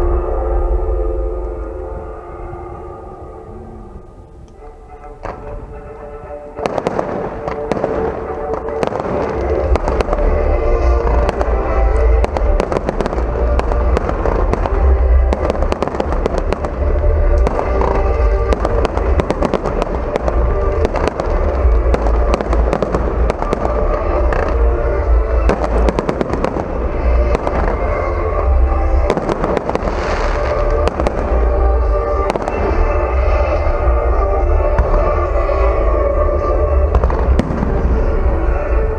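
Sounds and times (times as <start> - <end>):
fireworks bangs and crackles: 5.2 - 5.9, 6.6 - 38.9.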